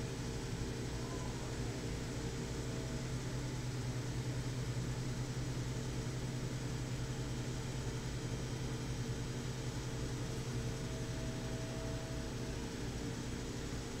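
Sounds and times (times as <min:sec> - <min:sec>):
heavy vehicle engine idling: 0:00.0 - 0:14.0.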